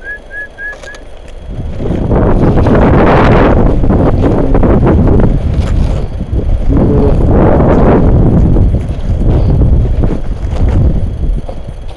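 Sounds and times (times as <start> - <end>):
dry stalks and leaves rustling: 0.0 - 11.9
wind buffeting microphone: 0.0 - 11.9.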